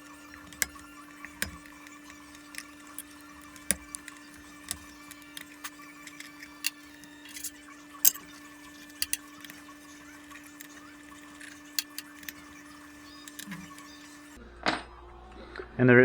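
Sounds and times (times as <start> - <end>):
metallic tool clicks and clinks: 0.0 - 14.4.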